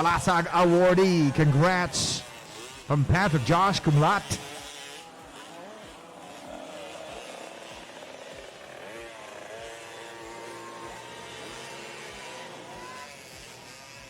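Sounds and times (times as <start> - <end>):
motocross bikes revving: 0.0 - 14.0.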